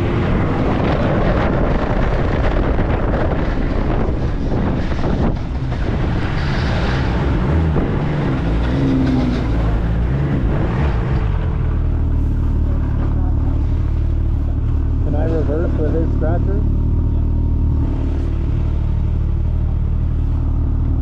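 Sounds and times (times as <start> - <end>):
snowmobile engine and track: 0.0 - 21.0.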